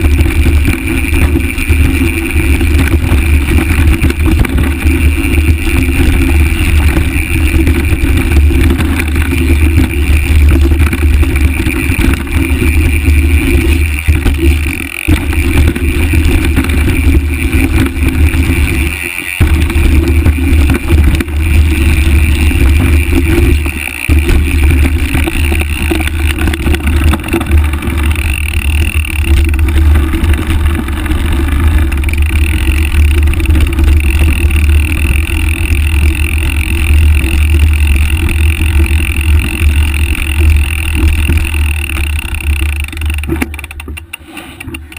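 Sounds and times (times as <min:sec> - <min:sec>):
tyres rolling over dirt trail: 0:00.0 - 0:44.9.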